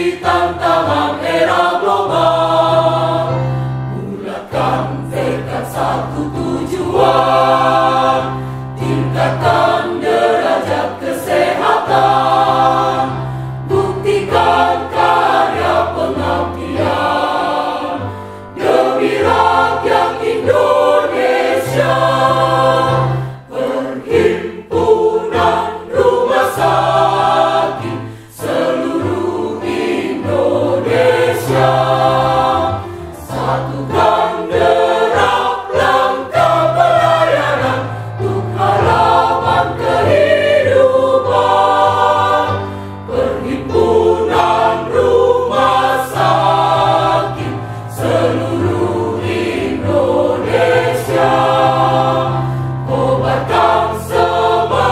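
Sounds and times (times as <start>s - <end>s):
mixed choir singing: 0.0s - 54.9s.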